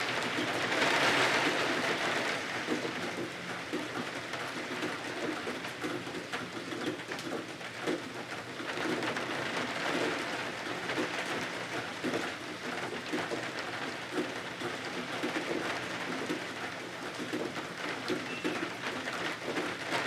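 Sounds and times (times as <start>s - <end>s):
rain on windows and roof: 0.0s - 20.0s.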